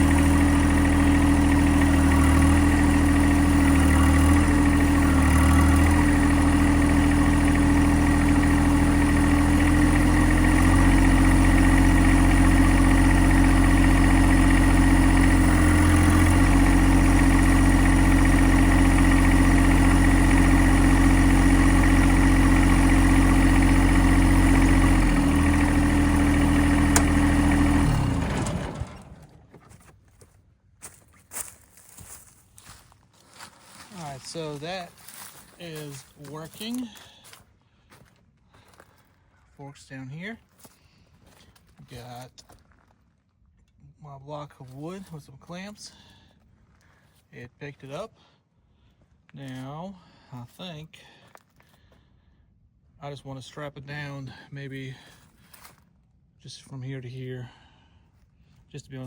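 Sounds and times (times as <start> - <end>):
tractor diesel engine running: 0.0 - 42.8, 43.9 - 48.4, 49.0 - 52.2, 53.0 - 55.8.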